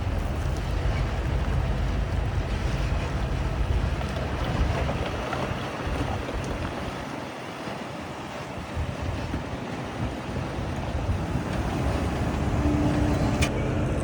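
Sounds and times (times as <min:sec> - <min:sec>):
diesel engine rumbling: 0:00.0 - 0:14.0
wind on microphone: 0:00.0 - 0:14.0.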